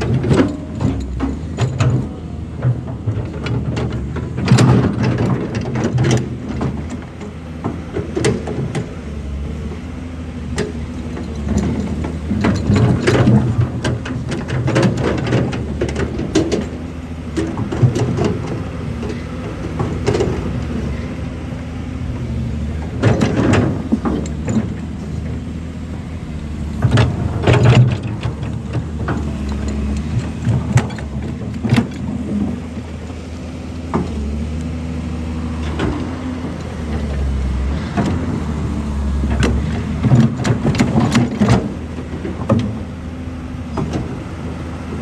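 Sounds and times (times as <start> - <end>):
excavator engine running: 0.0 - 45.0.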